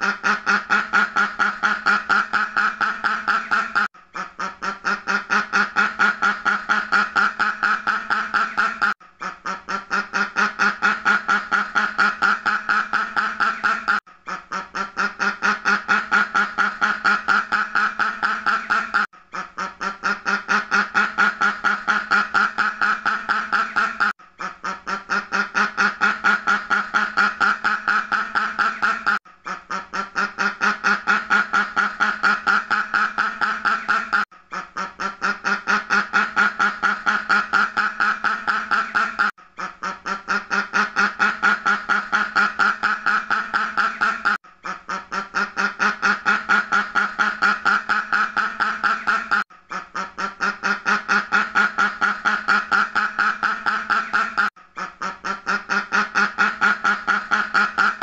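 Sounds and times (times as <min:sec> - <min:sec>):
duck quacking: 0:00.0 - 0:58.0.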